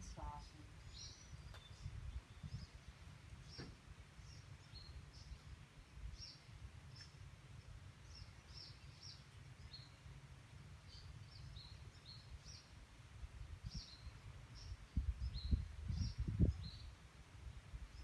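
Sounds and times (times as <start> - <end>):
small birds chirping: 0.0 - 12.9, 13.6 - 18.0.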